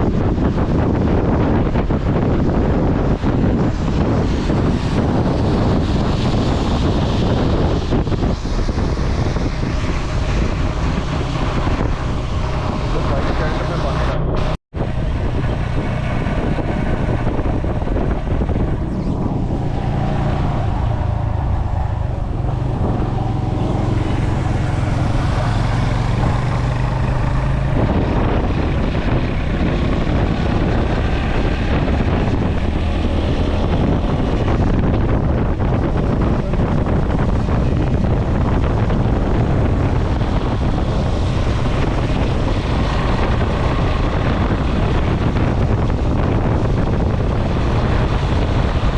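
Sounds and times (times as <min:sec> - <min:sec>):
motorcycle engine running: 0:00.0 - 0:48.9
road roar: 0:00.0 - 0:48.9
wind buffeting microphone: 0:00.0 - 0:48.9.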